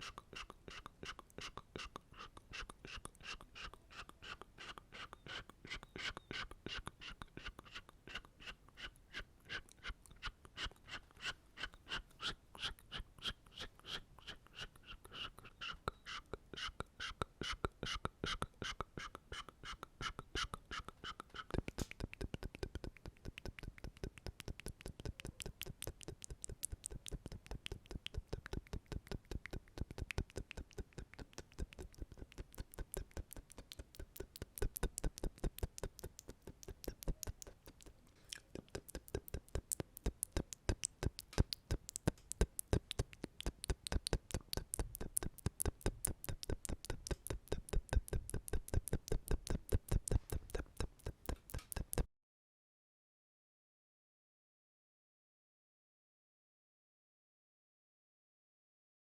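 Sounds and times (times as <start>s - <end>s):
wet mouth and tongue clicks: 0.0s - 52.1s.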